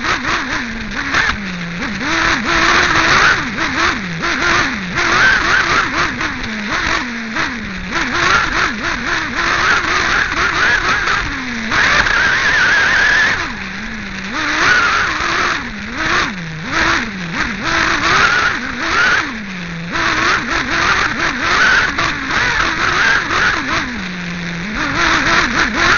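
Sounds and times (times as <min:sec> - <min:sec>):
model car engine revving: 0:00.0 - 0:25.9.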